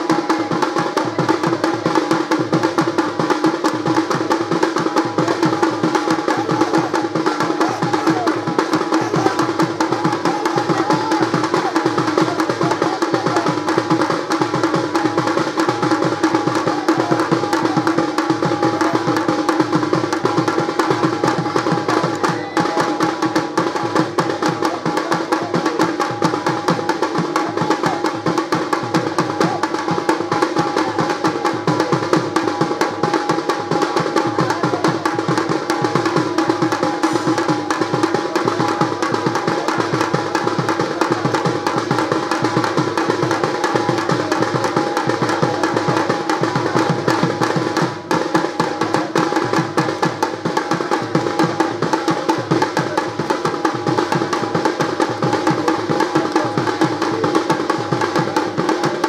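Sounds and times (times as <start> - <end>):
fast folk drumming: 0.0 - 59.0.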